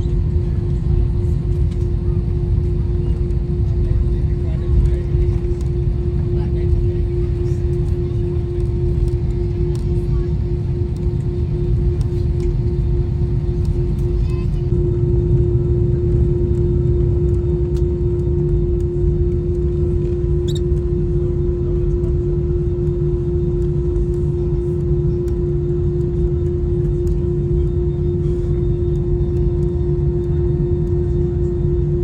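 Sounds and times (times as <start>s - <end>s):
airliner cabin rumble: 0.0s - 32.0s
constant hum: 0.0s - 32.0s.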